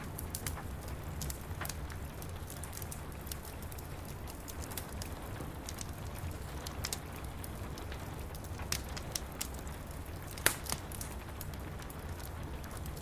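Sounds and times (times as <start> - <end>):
rain pattering on window glass: 0.0 - 13.0
wood fire crackling: 0.0 - 13.0.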